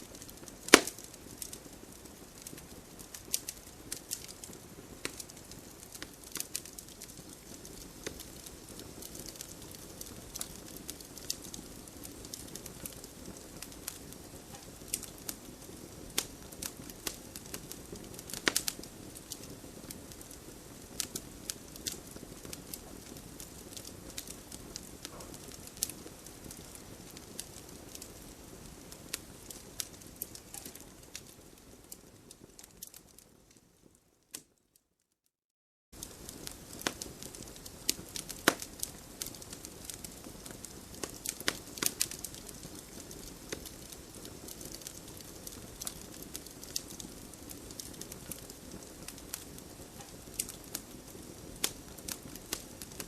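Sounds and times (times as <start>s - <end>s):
campfire crackling and popping: 0.0s - 34.5s, 36.0s - 53.0s
campfire flame rushing: 0.1s - 33.2s, 36.0s - 53.0s.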